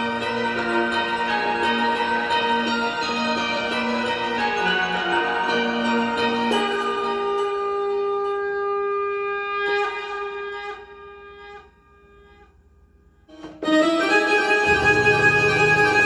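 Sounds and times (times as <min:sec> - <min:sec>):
keyboard chord: 0:00.0 - 0:10.6, 0:13.3 - 0:16.0
keyboard woodwind-like tone: 0:00.0 - 0:12.6, 0:13.3 - 0:16.0.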